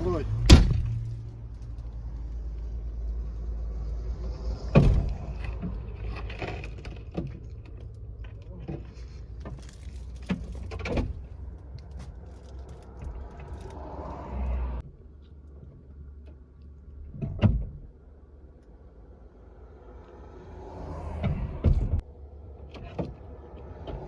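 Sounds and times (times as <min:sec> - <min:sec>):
car interior rumble: 0:00.0 - 0:24.0.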